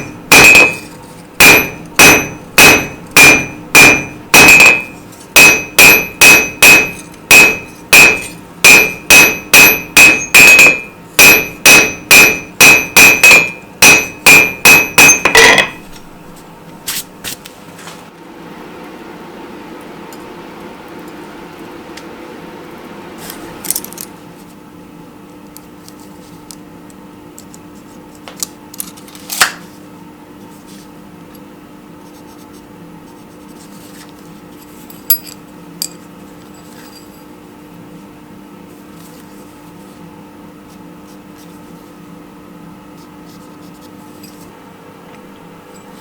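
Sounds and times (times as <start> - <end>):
forge air blower humming: 0.0 - 46.0.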